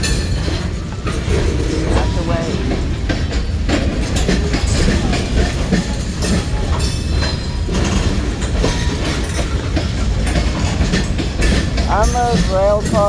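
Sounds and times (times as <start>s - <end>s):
freight train rumbling past: 0.0s - 13.0s
wheels clicking over rail joints: 0.0s - 13.0s.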